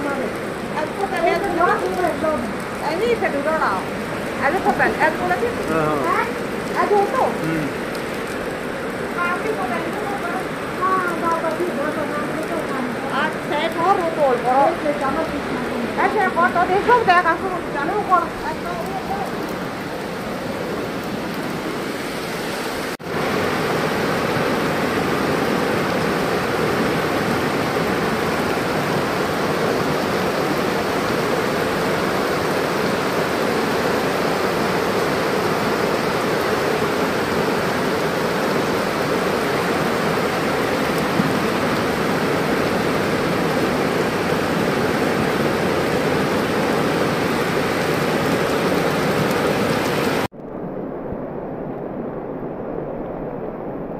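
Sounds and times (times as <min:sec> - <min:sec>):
flood water rushing: 0:00.0 - 0:50.4
heavy rain: 0:00.0 - 0:53.9.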